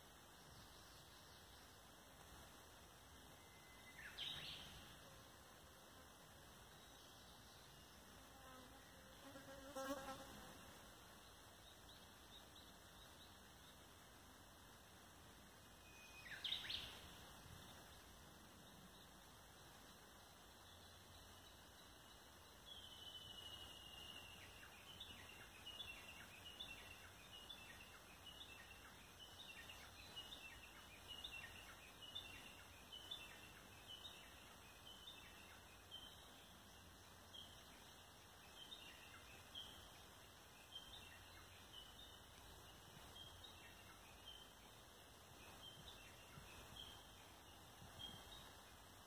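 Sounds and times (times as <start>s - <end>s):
steady background hiss: 0.0s - 49.0s.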